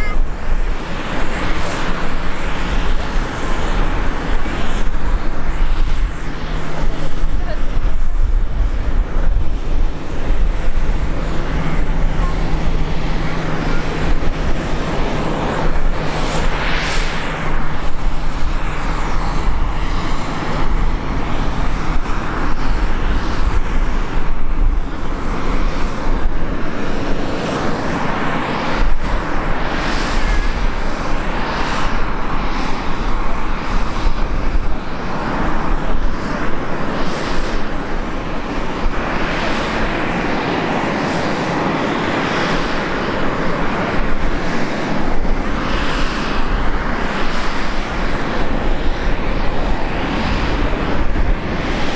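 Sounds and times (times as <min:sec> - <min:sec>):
jet engines rumbling: 0:00.0 - 0:51.9.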